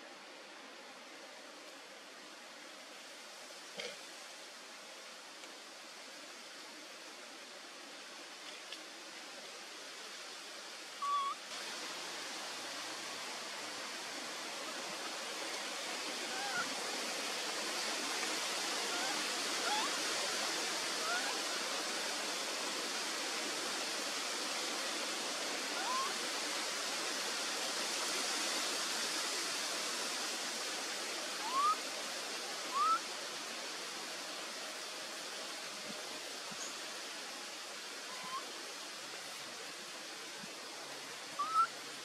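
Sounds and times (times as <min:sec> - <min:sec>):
outdoor ambience hiss: 0:00.0 - 0:42.0.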